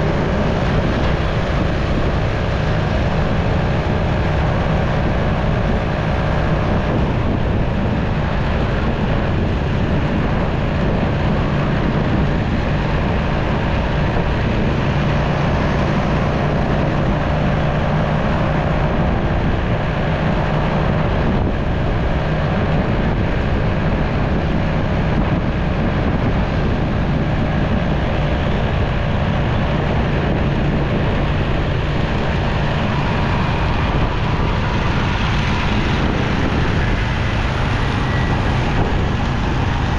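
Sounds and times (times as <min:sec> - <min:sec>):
motorcycle engine hum: 0:00.0 - 0:39.9
wind and road noise: 0:00.0 - 0:39.9.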